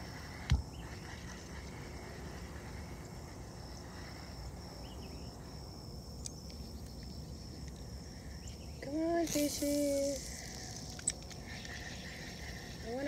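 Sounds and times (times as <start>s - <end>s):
high insect trill: 0.0s - 13.0s.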